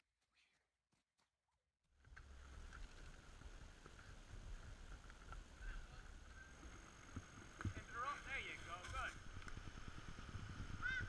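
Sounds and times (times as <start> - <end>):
faint low outdoor rumble: 2.0 - 11.0.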